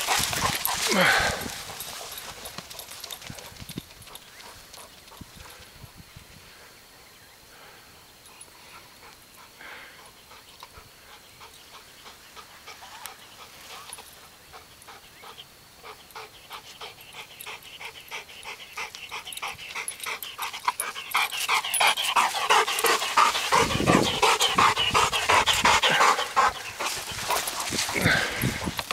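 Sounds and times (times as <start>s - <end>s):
dog panting: 0.0s - 5.8s, 8.3s - 28.9s.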